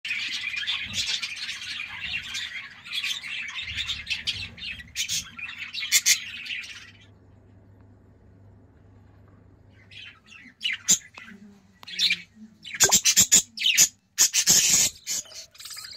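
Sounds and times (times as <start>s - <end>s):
budgerigars chirping: 0.1s - 7.0s, 10.0s - 15.9s.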